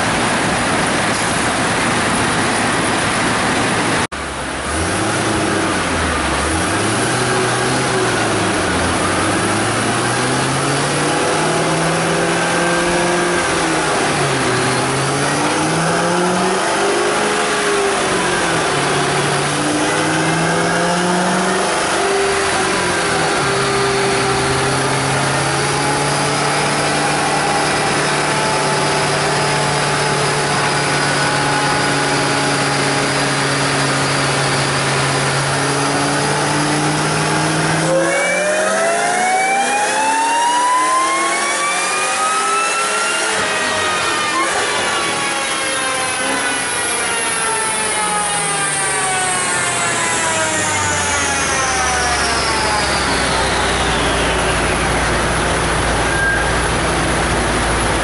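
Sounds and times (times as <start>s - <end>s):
car engine revving: 0.0s - 58.0s
high supercharger whine: 0.0s - 58.0s.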